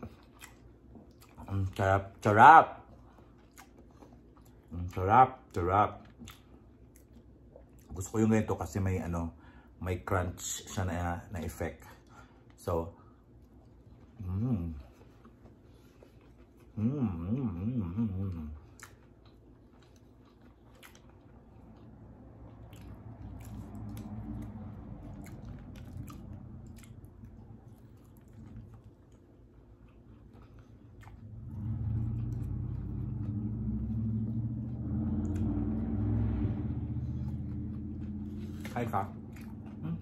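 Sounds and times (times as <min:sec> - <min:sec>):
chewing crunchy food: 0:00.0 - 0:08.5, 0:11.5 - 0:16.8, 0:18.5 - 0:36.4, 0:37.0 - 0:40.0
low steady hum: 0:00.0 - 0:40.0.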